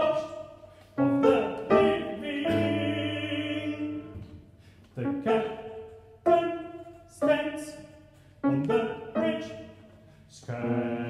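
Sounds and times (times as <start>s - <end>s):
detached piano chords: 0.0s - 11.0s
male classical singer: 0.0s - 11.0s.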